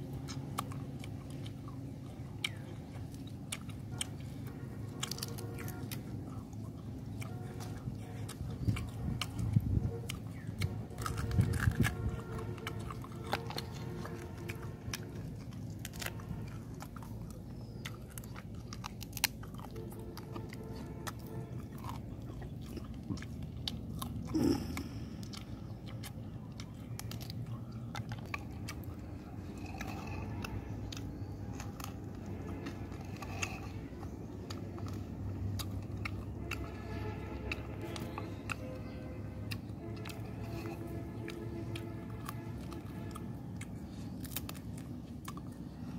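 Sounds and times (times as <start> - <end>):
mouth clicks: 0.0 - 45.8
person chewing crunchy food: 0.0 - 45.9.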